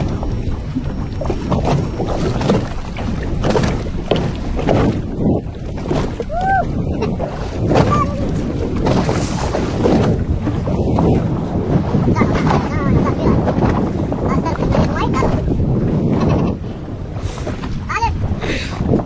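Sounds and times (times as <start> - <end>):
water washing against hull: 0.0 - 19.0
wind rushing over microphone: 0.0 - 19.0.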